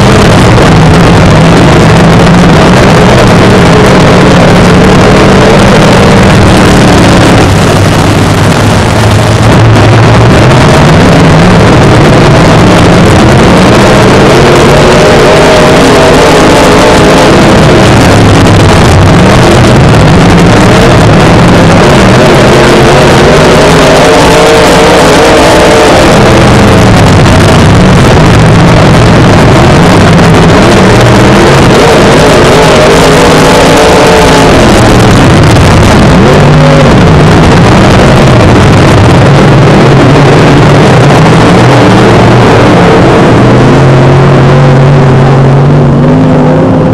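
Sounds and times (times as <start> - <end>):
race car engine revving: 0.0 - 46.9
wind and track noise: 0.0 - 46.9.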